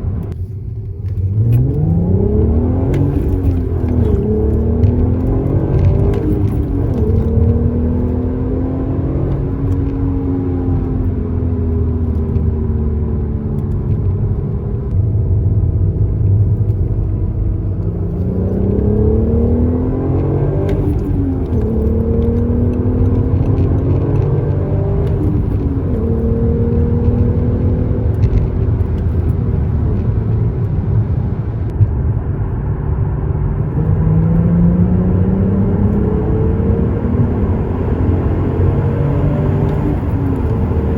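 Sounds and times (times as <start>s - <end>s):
car engine and exhaust revving: 0.0s - 40.9s.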